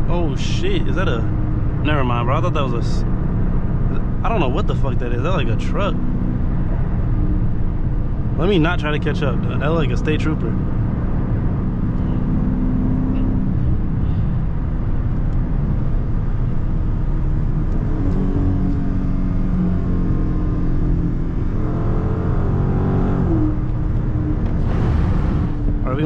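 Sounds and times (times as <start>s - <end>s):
car engine drone: 0.0s - 26.0s
road noise: 0.0s - 26.0s.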